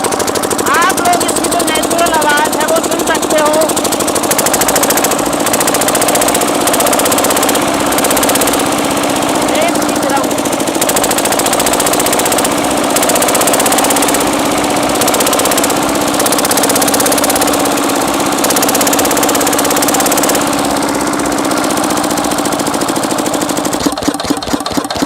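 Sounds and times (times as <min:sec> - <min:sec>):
diesel generator engine knocking: 0:00.0 - 0:25.0.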